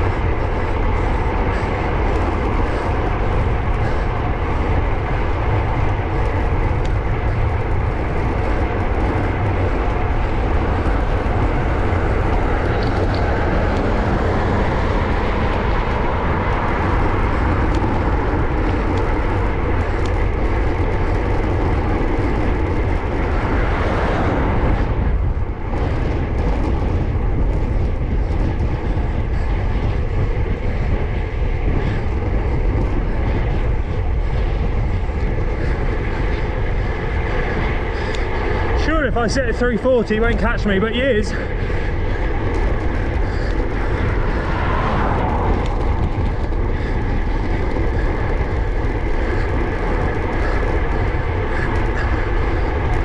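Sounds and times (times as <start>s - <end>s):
tyres rolling on rough tarmac: 0.0s - 53.0s
wind buffeting microphone: 0.0s - 53.0s.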